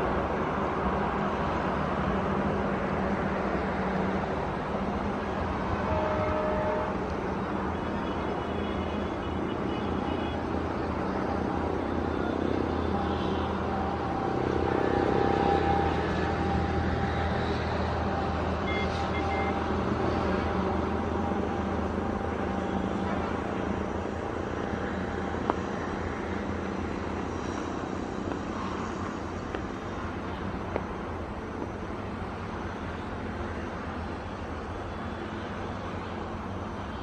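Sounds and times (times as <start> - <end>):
distant locomotive engine droning: 0.0 - 37.0.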